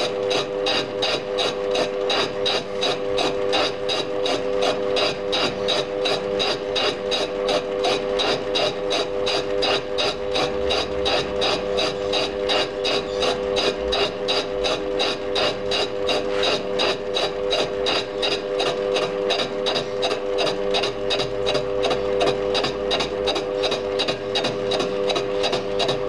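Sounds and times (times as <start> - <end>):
cutter striking metal rhythmically: 0.0 - 26.0
lathe motor hum: 0.0 - 26.0.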